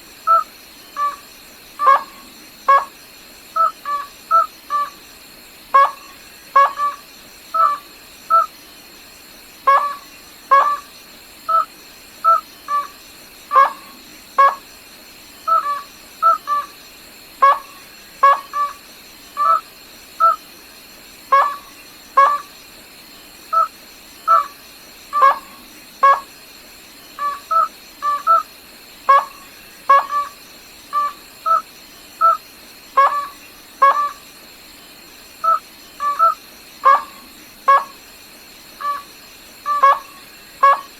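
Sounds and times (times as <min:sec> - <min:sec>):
faint high whine: 0:00.0 - 0:40.9.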